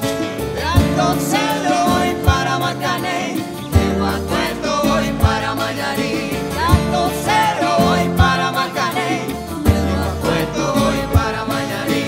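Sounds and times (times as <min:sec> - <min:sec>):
acoustic guitar: 0:00.0 - 0:12.0
people singing: 0:00.0 - 0:12.0.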